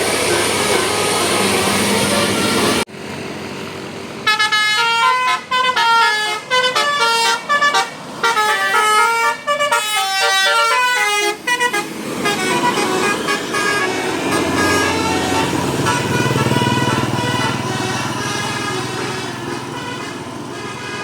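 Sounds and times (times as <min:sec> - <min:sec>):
traffic noise: 0:00.0 - 0:21.0
multi-tone musical bus horn: 0:00.3 - 0:02.9, 0:04.2 - 0:21.0.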